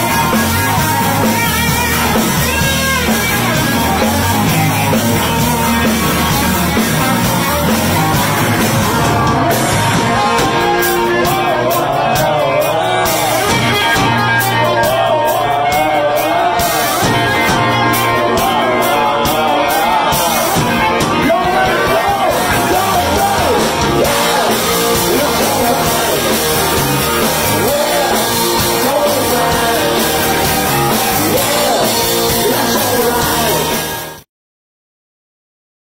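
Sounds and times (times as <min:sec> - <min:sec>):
blues-rock band playing: 0:00.0 - 0:34.2.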